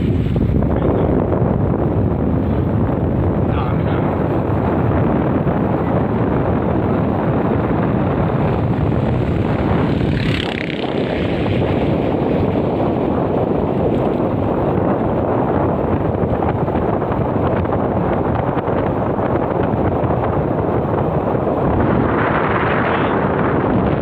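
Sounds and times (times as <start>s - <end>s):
vehicle road noise: 0.0s - 24.0s
wind rushing over microphone: 0.0s - 24.0s.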